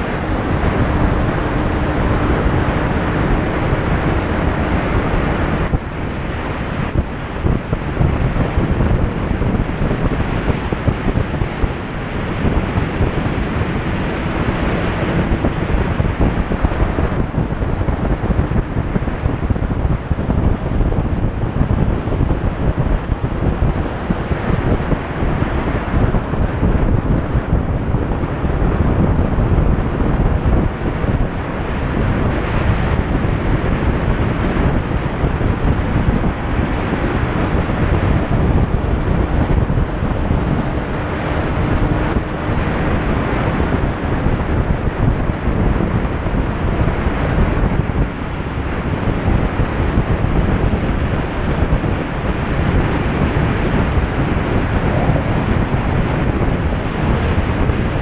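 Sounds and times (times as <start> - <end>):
faint motorcycle engine drone: 0.0 - 58.0
wind buffeting microphone: 0.0 - 58.0.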